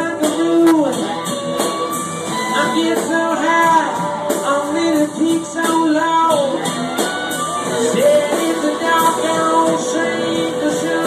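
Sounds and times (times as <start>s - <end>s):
guitar: 0.0s - 11.0s
person singing: 0.0s - 11.0s.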